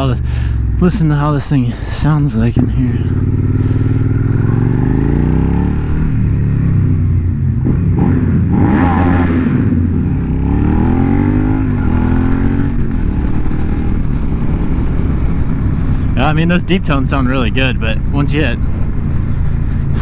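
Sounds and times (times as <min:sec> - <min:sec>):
motorcycle engine revving: 0:01.9 - 0:20.0.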